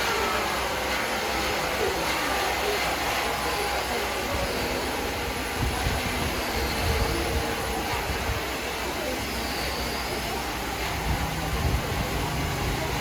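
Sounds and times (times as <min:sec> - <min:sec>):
woodworking machinery running: 0:00.0 - 0:13.0.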